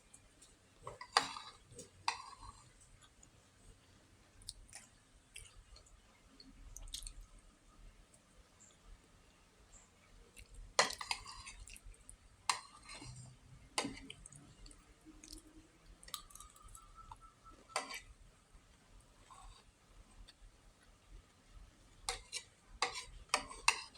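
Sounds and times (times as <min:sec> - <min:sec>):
faint chewing: 0:00.1 - 0:18.2, 0:19.0 - 0:21.4, 0:22.0 - 0:23.9.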